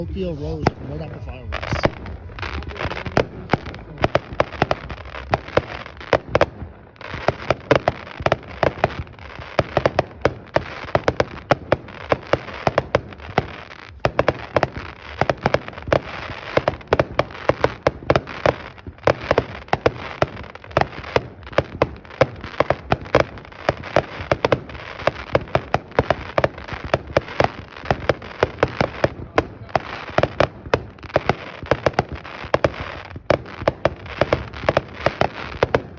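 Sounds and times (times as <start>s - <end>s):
firework crackling: 0.0s - 35.9s
firework cracks and pops: 0.1s - 35.9s.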